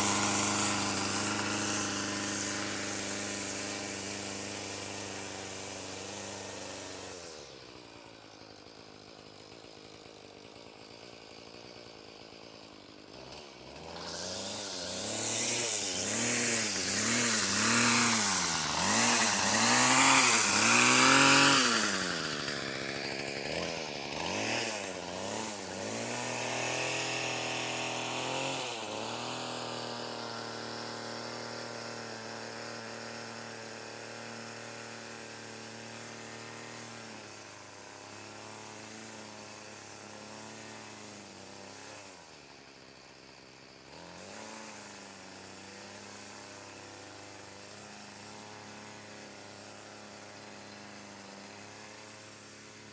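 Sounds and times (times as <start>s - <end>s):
string trimmer engine revving: 0.0s - 52.9s.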